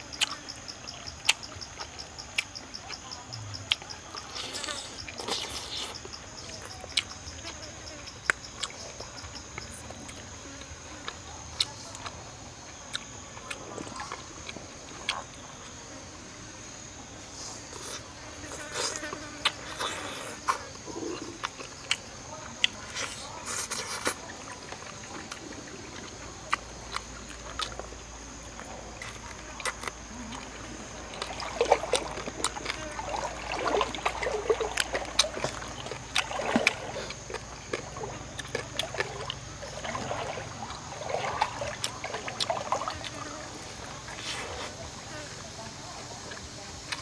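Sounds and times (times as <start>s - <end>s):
high insect buzz: 0.0s - 12.0s, 15.2s - 45.5s
chewing and lip-smacking: 0.1s - 15.4s, 17.7s - 43.4s.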